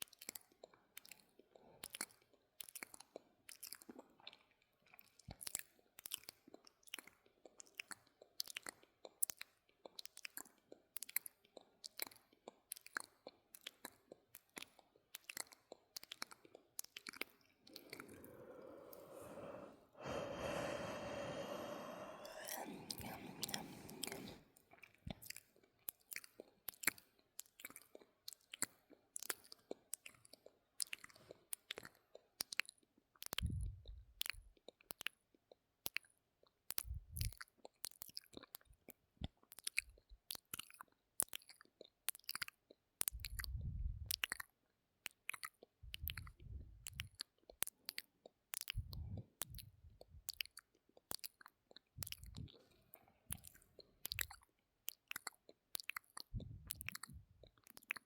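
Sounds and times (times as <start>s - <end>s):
tongue clicks and lip smacks: 0.0s - 19.6s, 20.4s - 58.0s.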